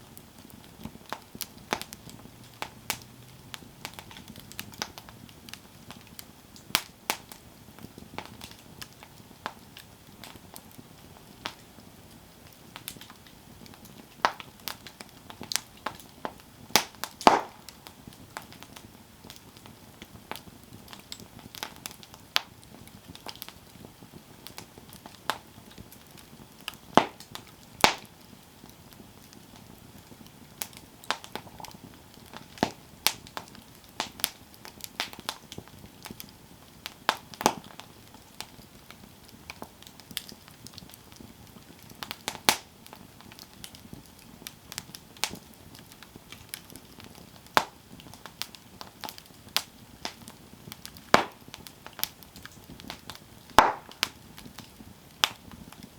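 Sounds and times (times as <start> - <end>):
campfire crackles and pops: 0.0 - 55.9
flames hissing: 0.0 - 55.9.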